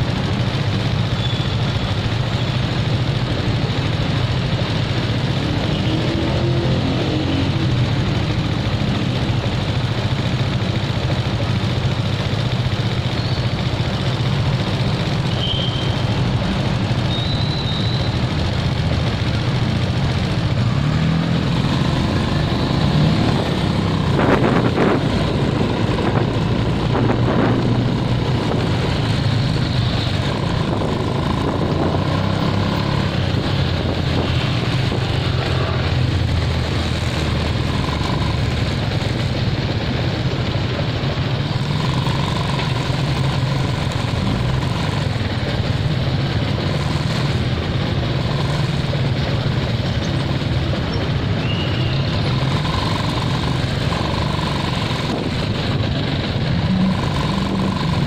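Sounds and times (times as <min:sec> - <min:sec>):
motorcycle engine idling: 0:00.0 - 0:58.0
street traffic noise: 0:00.0 - 0:58.0.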